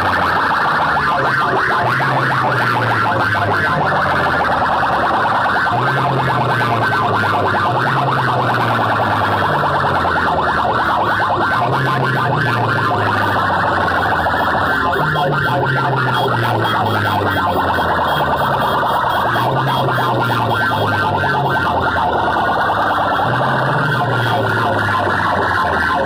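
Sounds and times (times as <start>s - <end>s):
low bass line: 0.0s - 26.0s
rapidly pulsing electronic tone: 0.0s - 26.0s.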